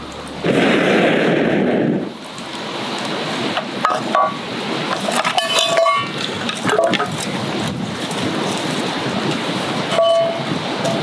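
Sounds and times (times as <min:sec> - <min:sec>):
firewood crackling and popping: 0:00.0 - 0:11.0.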